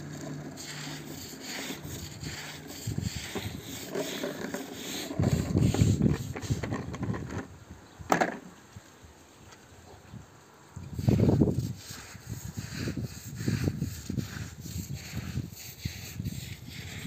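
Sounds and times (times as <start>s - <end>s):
plastic toy scraping on concrete: 0.0s - 8.5s, 10.8s - 17.0s.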